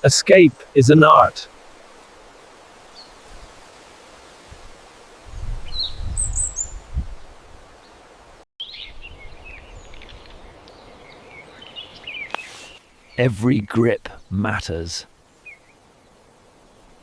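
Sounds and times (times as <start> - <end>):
wild birds chirping: 0.0 - 7.0, 7.8 - 17.0.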